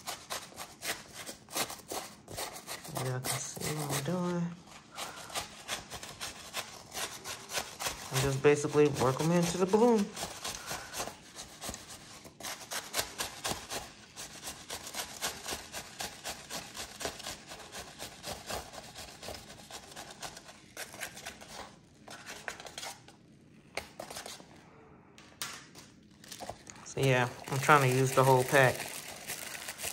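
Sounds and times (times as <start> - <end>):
foam beads rustling through paper funnel: 0.0 - 21.4, 26.1 - 29.9.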